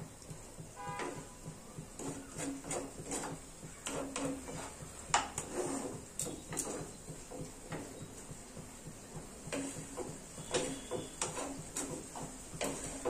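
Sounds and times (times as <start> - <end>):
wooden spatula scraping a pan: 0.1 - 13.0.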